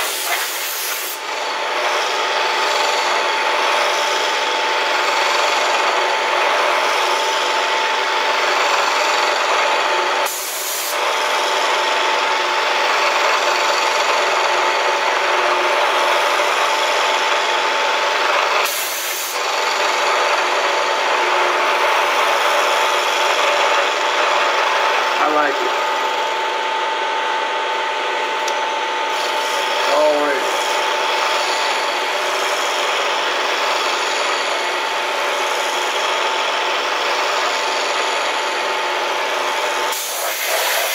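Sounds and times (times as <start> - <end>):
milling machine cutting metal: 0.0 - 40.9.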